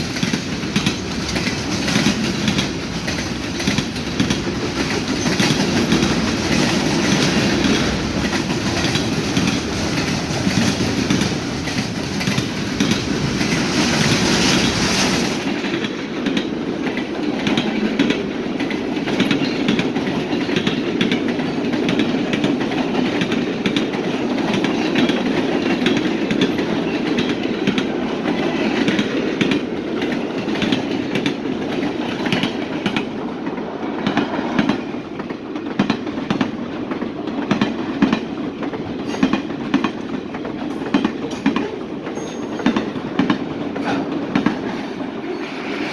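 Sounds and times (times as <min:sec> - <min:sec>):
deep train rumble: 0:00.0 - 0:45.9
train wheels clicking over rail joints: 0:00.0 - 0:45.9.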